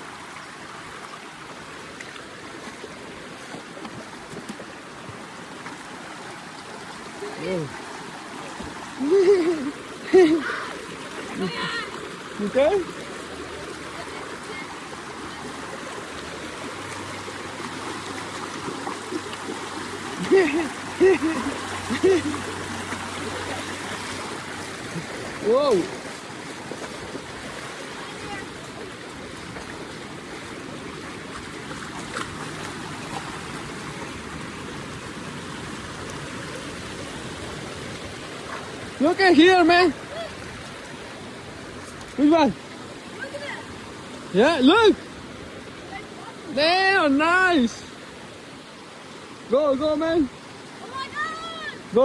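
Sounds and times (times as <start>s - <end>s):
river flowing over rocks: 0.0s - 52.0s.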